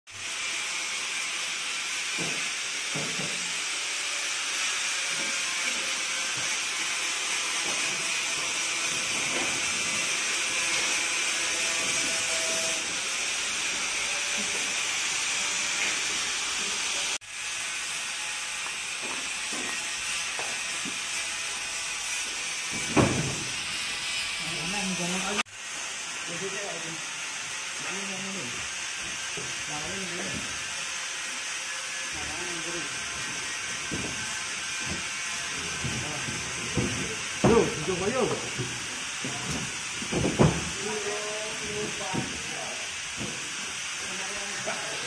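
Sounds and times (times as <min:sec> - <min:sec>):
workshop background hiss: 0:00.2 - 0:45.0.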